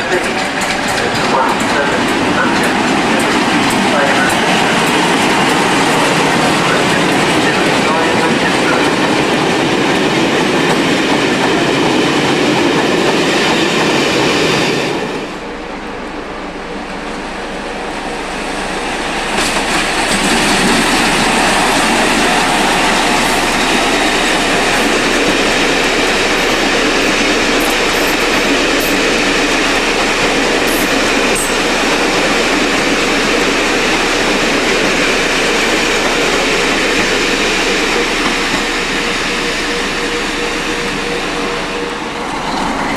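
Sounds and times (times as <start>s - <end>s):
train wheels rumbling and clattering: 0.0s - 42.9s.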